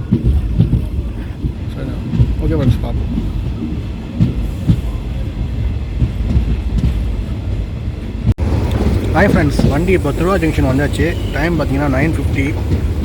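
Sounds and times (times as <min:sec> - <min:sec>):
train low rumble: 0:00.0 - 0:13.0
wheels clacking over rail joints: 0:00.0 - 0:13.0.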